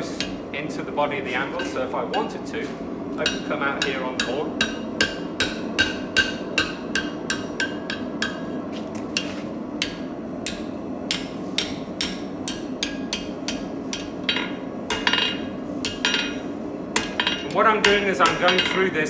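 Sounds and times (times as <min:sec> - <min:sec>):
steady low hum: 0:00.0 - 0:19.0
hammer striking hot steel on anvil: 0:00.1 - 0:00.4, 0:01.6 - 0:02.4, 0:03.2 - 0:19.0.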